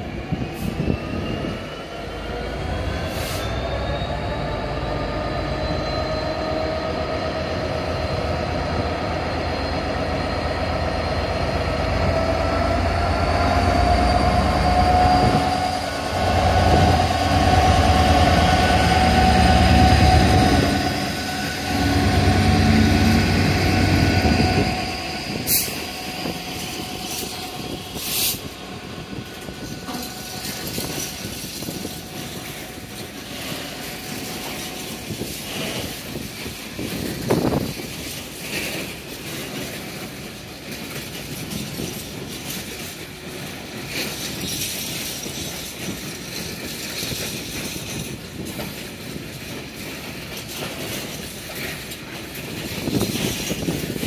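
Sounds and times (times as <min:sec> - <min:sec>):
train wheels rumbling on rail: 0:00.0 - 0:54.0
train whine: 0:00.0 - 0:54.0.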